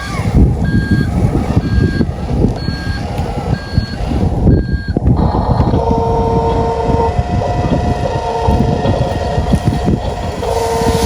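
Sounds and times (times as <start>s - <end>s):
low rumbling and crackling: 0.0s - 11.0s
steady electronic tone: 0.0s - 11.0s
electronic reversing beeps: 0.6s - 11.0s.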